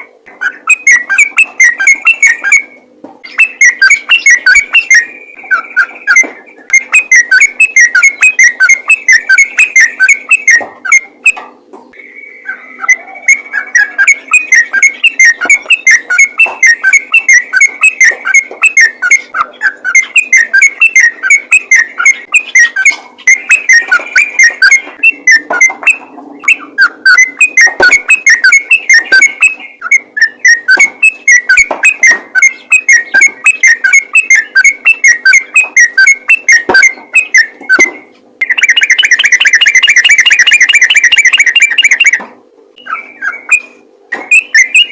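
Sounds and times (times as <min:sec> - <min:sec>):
bulbul singing rapid whistled notes: 0:00.3 - 0:42.2, 0:42.8 - 0:44.9.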